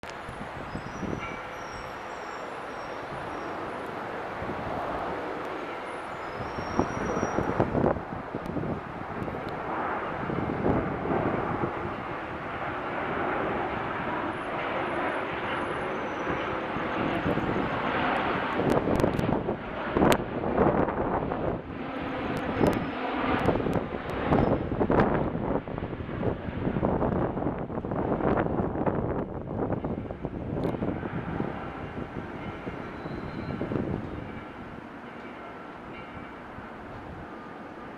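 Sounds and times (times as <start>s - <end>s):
jet airliner passing overhead: 0.0s - 37.9s.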